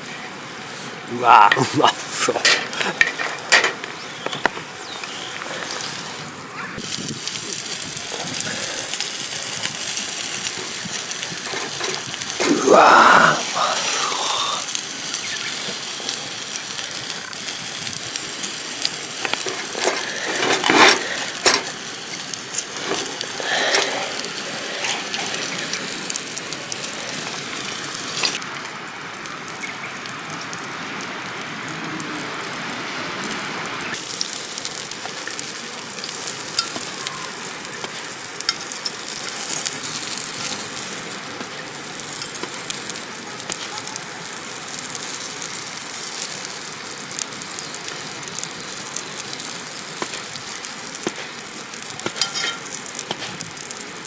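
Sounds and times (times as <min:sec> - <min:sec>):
steak sizzling over fire: 0:00.0 - 0:54.0.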